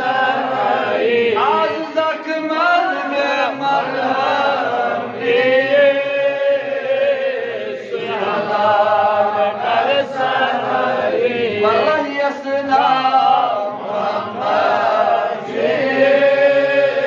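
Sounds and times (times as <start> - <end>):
man chanting melodically: 0.1 - 17.0.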